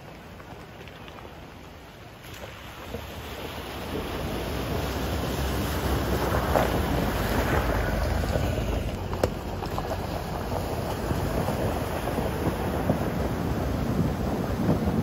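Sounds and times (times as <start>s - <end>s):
tyres on gravel: 0.0s - 15.0s
water splashing off tyres: 0.0s - 15.0s
truck engine rumble: 2.8s - 15.0s.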